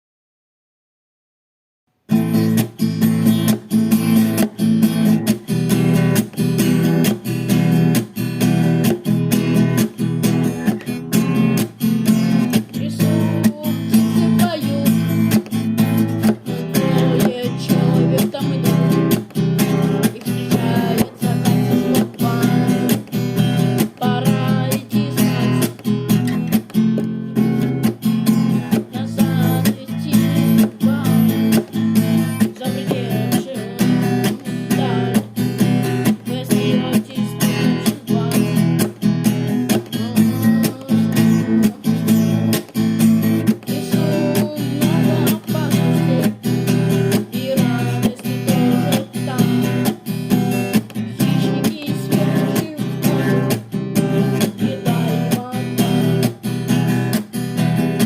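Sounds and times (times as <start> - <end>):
acoustic guitar strumming chords: 2.1 - 58.0.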